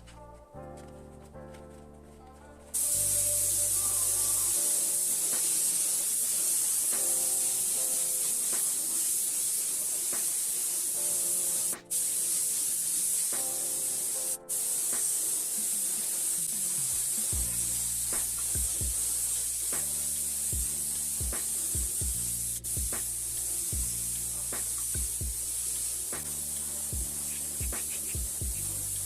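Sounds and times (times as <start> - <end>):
background music: 0.0 - 29.0
pressurised spray hissing: 2.8 - 29.0.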